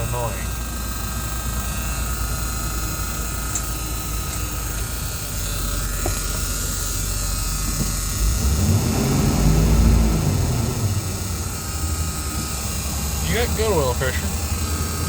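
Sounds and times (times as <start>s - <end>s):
car engine idling: 0.0s - 15.0s
high-pitched warning buzzer tone: 0.0s - 15.0s.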